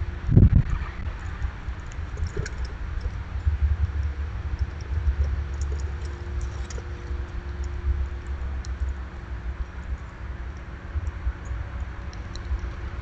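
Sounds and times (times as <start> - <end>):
faint steady hum: 0.0 - 13.0
low rumble on microphone: 0.0 - 13.0
faint light ticks and clicks: 1.3 - 9.0, 9.6 - 13.0.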